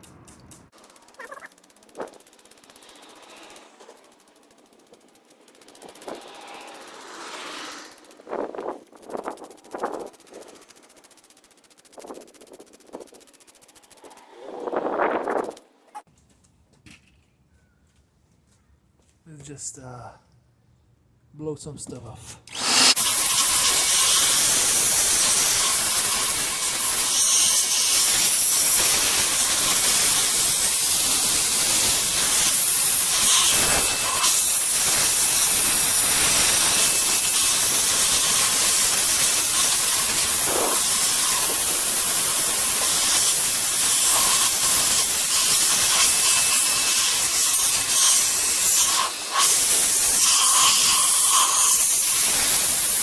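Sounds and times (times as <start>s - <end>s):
compressed air hissing: 1.7s - 15.6s, 22.5s - 53.0s.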